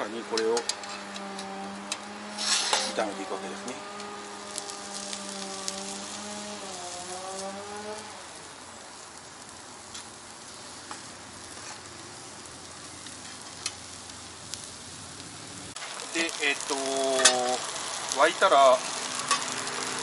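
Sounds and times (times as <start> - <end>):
onions sizzling in a frying pan: 0.0 - 20.0.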